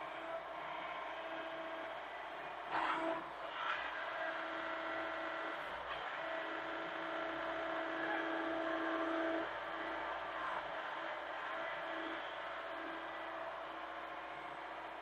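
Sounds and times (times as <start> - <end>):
excavator engine whining: 0.0 - 15.0.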